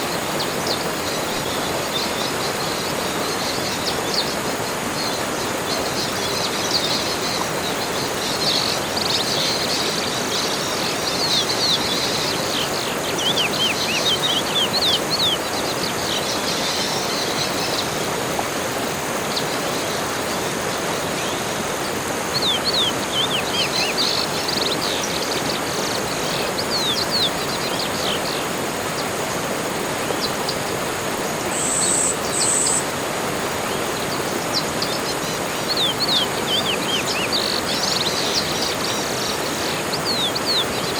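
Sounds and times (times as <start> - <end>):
forest birds chirping: 0.0 - 40.9
steady background hiss: 0.0 - 40.9.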